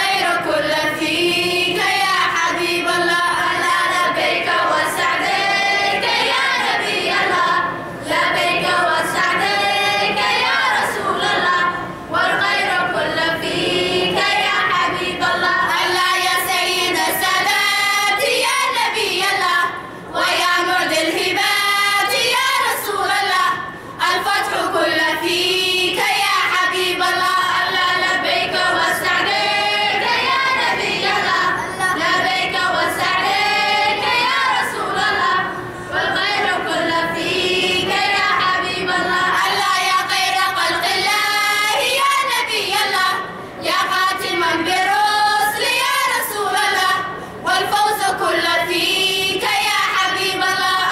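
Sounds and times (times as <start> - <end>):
girls singing together: 0.0 - 50.9.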